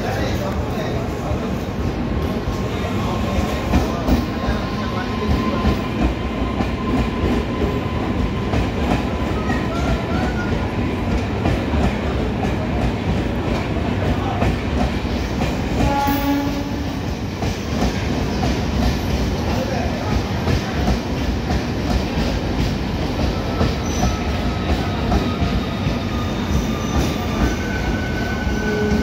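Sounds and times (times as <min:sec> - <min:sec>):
electric train rumbling: 0:00.0 - 0:29.0
rail clicks: 0:02.2 - 0:29.0.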